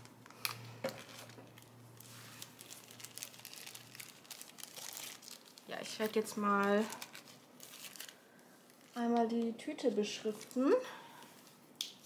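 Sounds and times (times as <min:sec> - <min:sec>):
plastic bags crinkling: 0:00.0 - 0:09.5, 0:10.1 - 0:11.6.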